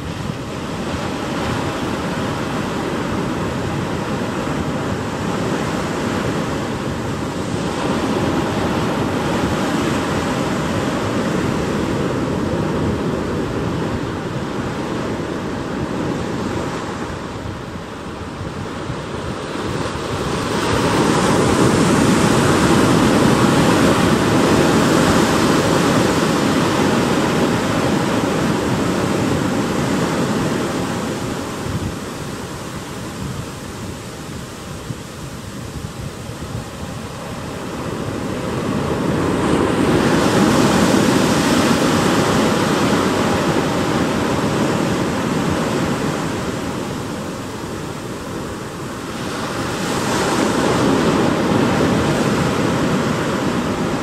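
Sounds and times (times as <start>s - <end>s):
ocean waves washing: 0.0s - 54.0s.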